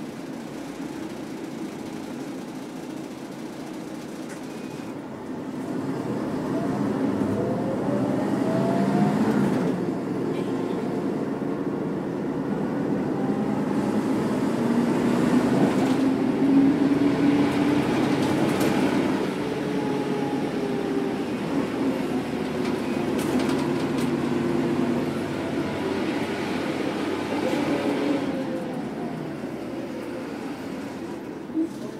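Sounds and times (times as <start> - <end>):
diesel bus engine accelerating: 0.0 - 31.9.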